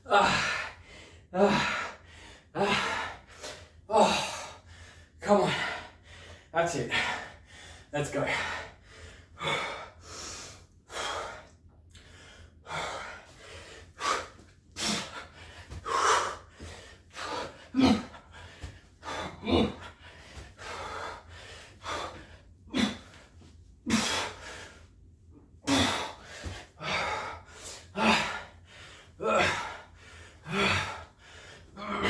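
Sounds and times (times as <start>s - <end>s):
man breathing hard: 0.0s - 32.0s.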